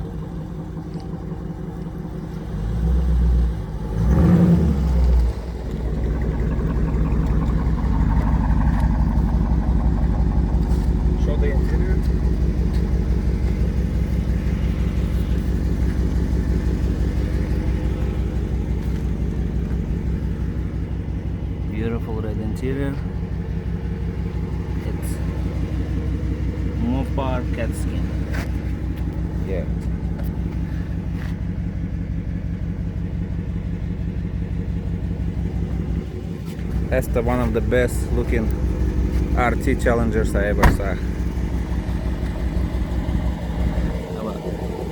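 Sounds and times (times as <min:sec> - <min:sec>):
engine exhaust rumbling: 0:00.0 - 0:44.9.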